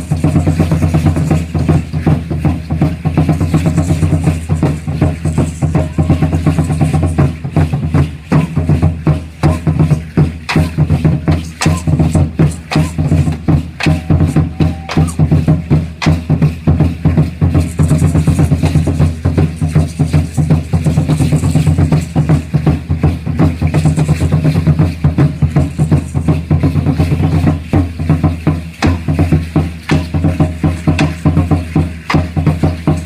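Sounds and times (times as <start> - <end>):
clattering percussion: 0.0 - 33.0
large drum beating: 0.0 - 33.0.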